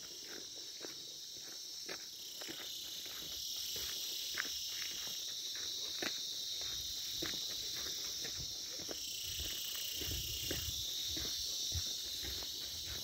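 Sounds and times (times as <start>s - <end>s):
footsteps on gravel: 0.0s - 13.0s
insects chorus: 0.0s - 13.0s.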